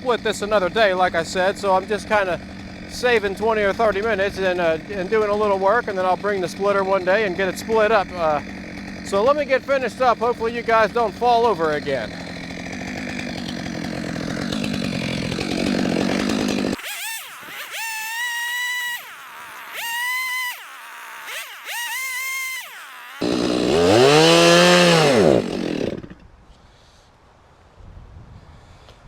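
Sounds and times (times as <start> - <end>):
chainsaw cutting and revving: 0.0 - 26.2.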